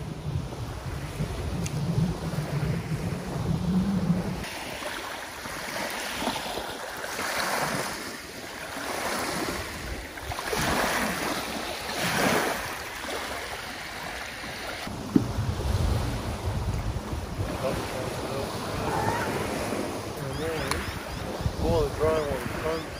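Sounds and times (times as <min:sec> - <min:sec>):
wind buffeting microphone: 0:00.0 - 0:06.7, 0:09.0 - 0:22.9
small waves washing onto shore: 0:00.0 - 0:22.9.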